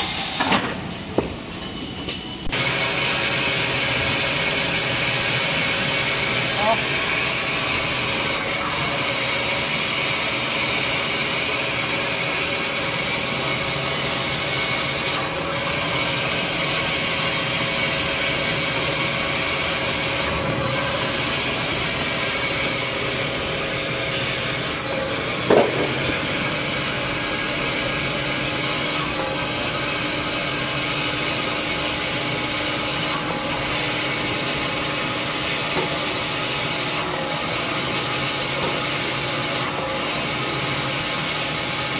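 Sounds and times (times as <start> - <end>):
band saw machine humming: 2.4 - 41.9.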